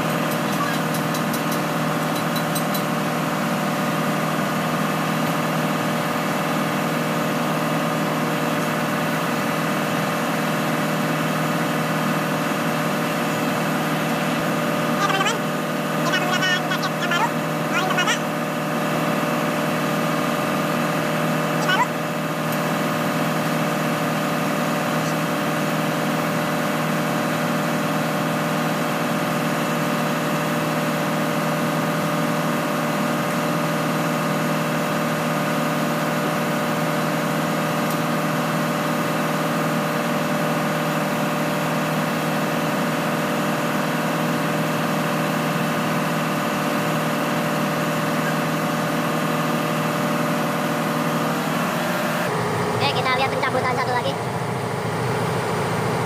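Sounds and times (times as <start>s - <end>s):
engine-room machinery drone: 0.0s - 56.0s.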